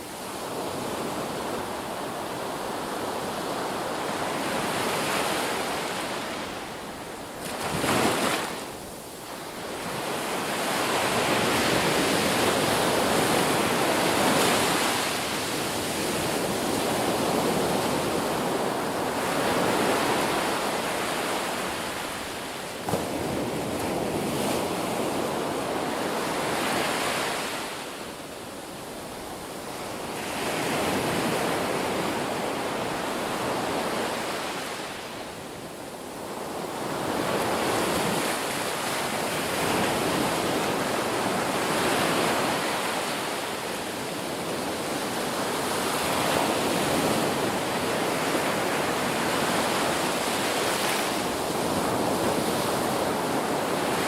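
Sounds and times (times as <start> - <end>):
waves breaking and washing in: 0.0 - 54.0.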